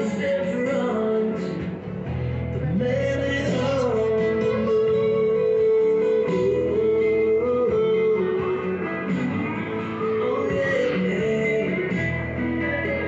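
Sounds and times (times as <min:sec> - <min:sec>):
song with bending guitar notes: 0:00.0 - 0:13.0.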